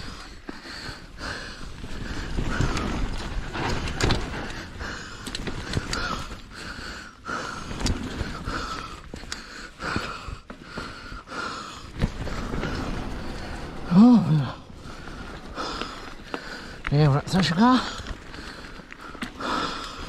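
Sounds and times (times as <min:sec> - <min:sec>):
bike knocking and rattling: 0:00.0 - 0:20.0.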